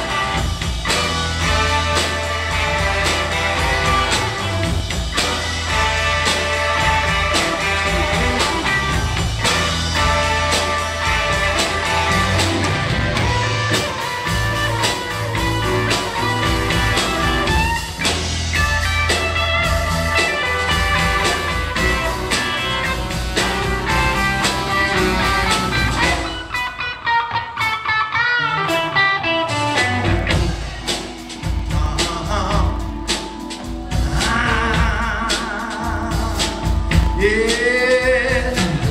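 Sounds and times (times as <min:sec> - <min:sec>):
blues-rock band playing: 0:00.0 - 0:38.9
lead guitar: 0:00.0 - 0:38.9.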